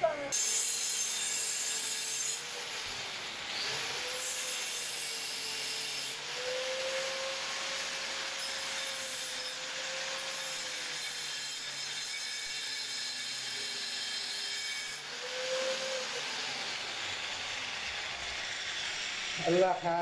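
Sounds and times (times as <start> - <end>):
angle grinder grinding steel: 0.0 - 20.0.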